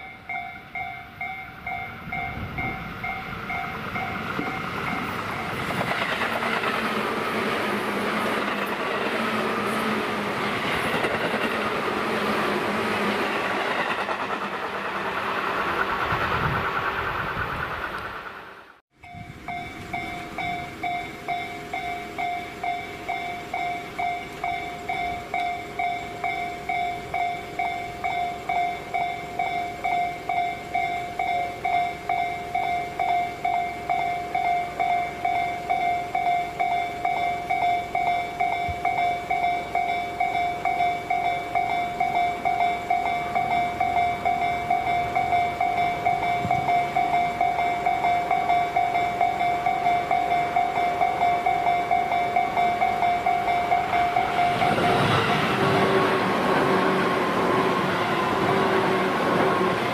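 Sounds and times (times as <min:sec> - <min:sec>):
railroad crossing bell dinging: 0:00.0 - 0:16.6, 0:19.0 - 0:59.9.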